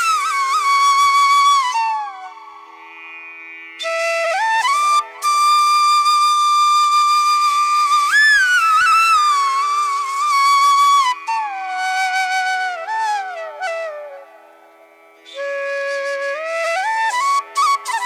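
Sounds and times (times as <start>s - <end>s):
solo flute melody: 0.0s - 3.0s, 3.8s - 18.0s.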